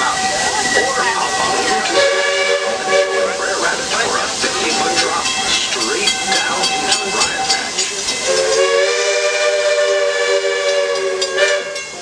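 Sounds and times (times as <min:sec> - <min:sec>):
steam exhaust chuffing: 0:00.0 - 0:12.0
steam locomotive chime whistle: 0:00.0 - 0:12.0.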